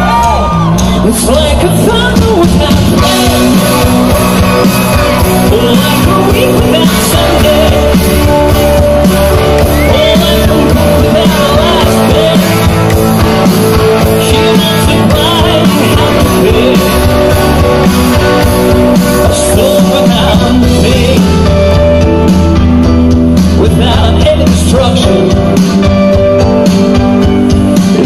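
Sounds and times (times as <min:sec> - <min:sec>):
person singing: 0:00.0 - 0:22.5, 0:23.4 - 0:26.2
live rock band playing: 0:00.0 - 0:28.0.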